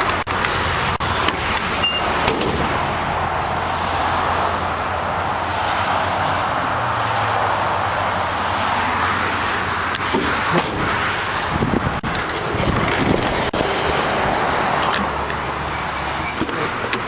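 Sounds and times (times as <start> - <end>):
highway traffic roar: 0.0 - 17.0.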